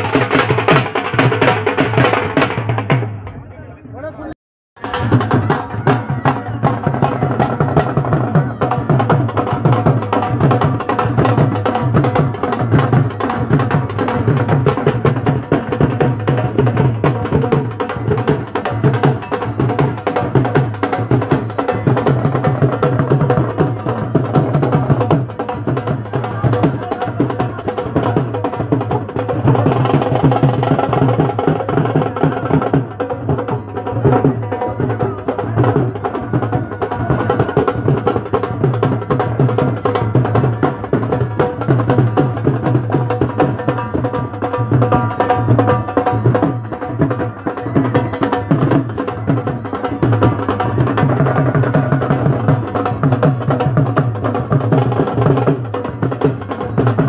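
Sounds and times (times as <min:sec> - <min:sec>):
drums beaten with sticks: 0:00.0 - 0:03.4, 0:04.8 - 0:57.0.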